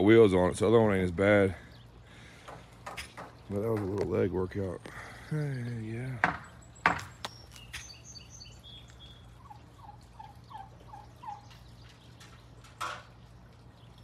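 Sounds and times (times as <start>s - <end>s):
turkeys calling: 1.5s - 14.0s.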